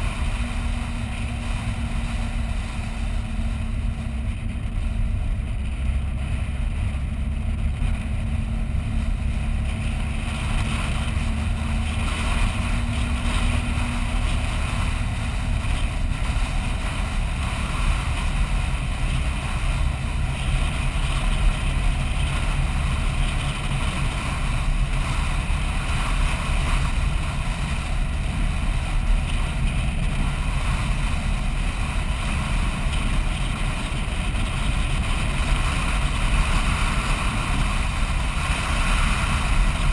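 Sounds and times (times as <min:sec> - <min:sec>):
vehicle driving on sand: 0:00.0 - 0:39.9.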